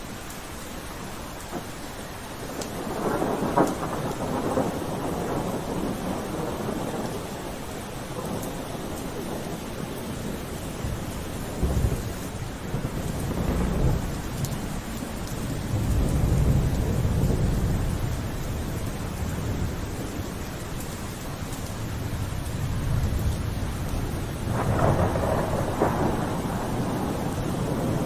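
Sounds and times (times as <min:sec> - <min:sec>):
rain falling: 0:00.0 - 0:28.0
thunder rolling: 0:02.4 - 0:28.0.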